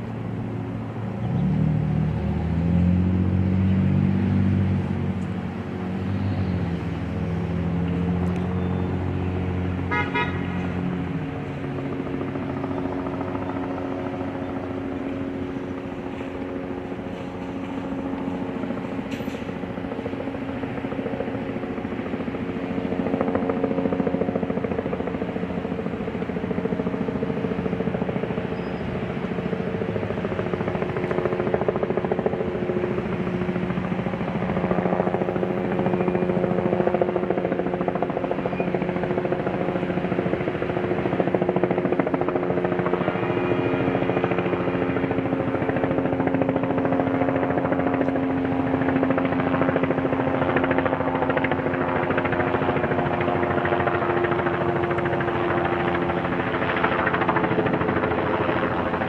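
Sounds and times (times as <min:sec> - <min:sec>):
large engine droning: 0:00.0 - 0:59.0.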